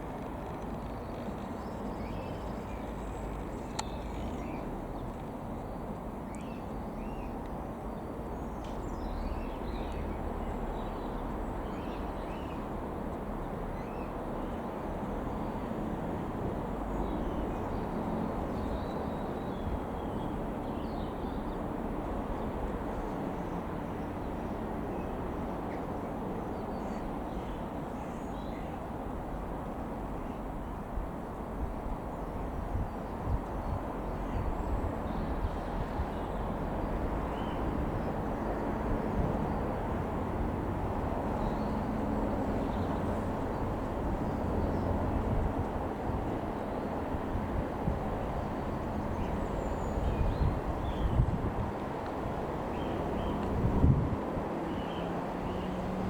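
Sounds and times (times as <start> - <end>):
distant light aeroplane droning: 0.0 - 56.0.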